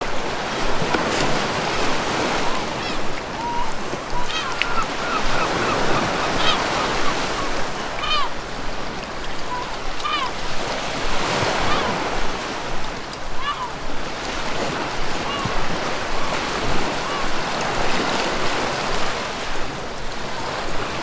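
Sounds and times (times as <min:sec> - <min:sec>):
ocean waves breaking on shore: 0:00.0 - 0:21.0
seagulls calling: 0:01.4 - 0:19.7.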